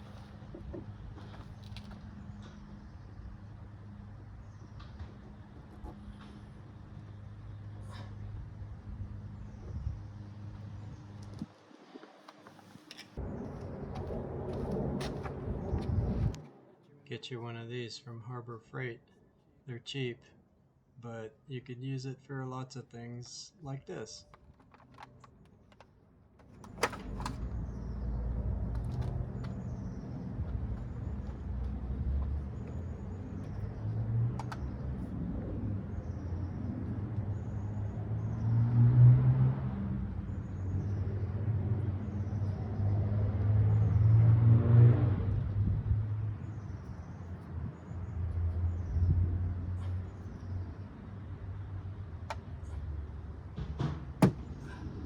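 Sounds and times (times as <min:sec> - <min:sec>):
vehicles passing: 0:00.0 - 0:17.7, 0:23.3 - 0:55.0
low rumble of road traffic: 0:00.0 - 0:55.0.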